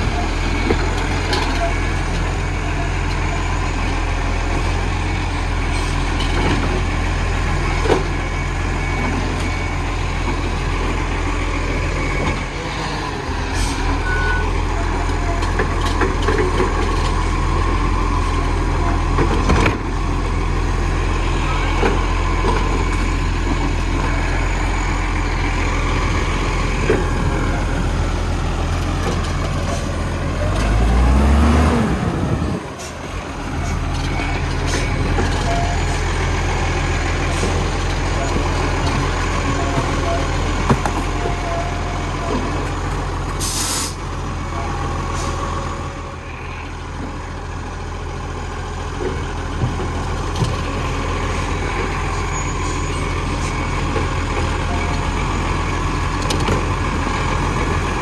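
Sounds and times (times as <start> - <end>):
garbage truck diesel engine running: 0.0 - 58.0.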